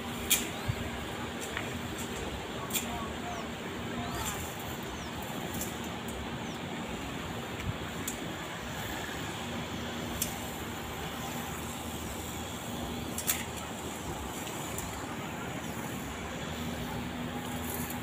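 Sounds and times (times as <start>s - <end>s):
distant diesel locomotive drone: 0.0s - 18.0s
wide rush of noise: 0.0s - 18.0s.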